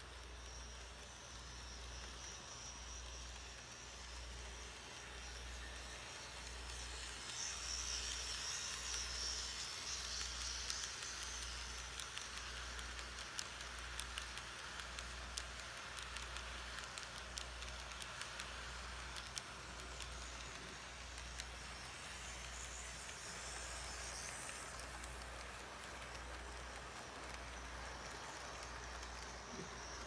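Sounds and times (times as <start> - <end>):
model train wheels clicking: 0.0 - 30.0
steady low hum: 0.0 - 30.0.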